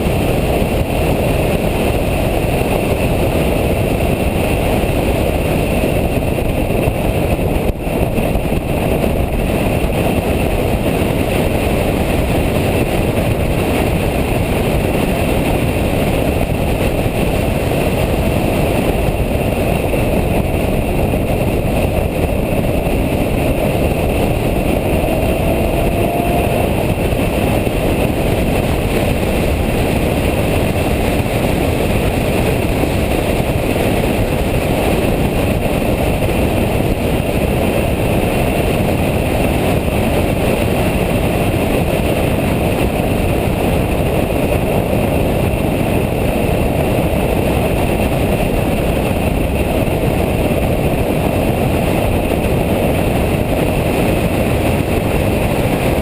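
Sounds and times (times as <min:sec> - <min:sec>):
car engine tyre and wind noise: 0:00.0 - 0:56.0.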